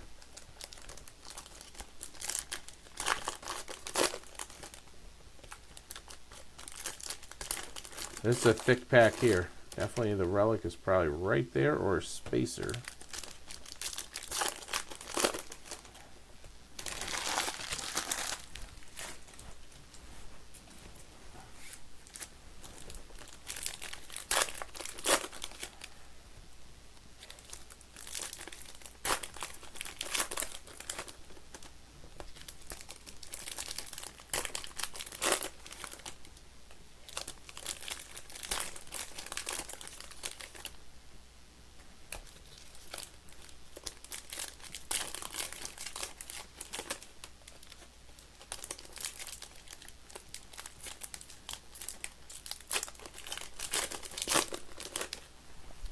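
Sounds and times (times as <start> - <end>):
foil packs tearing and crinkling: 0.2 - 4.8, 5.4 - 10.2, 12.6 - 15.9, 16.8 - 19.5, 22.0 - 25.9, 27.2 - 36.2, 37.0 - 40.8, 42.1 - 55.2.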